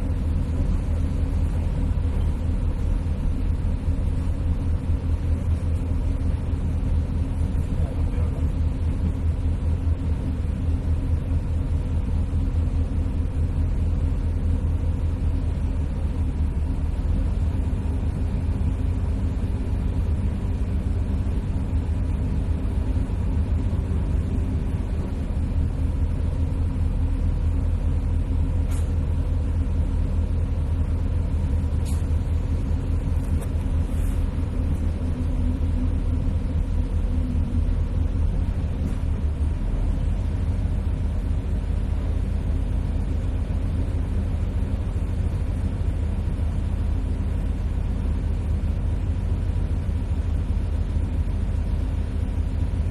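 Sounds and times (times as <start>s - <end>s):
motor vehicle engine rumble: 0.0s - 52.9s.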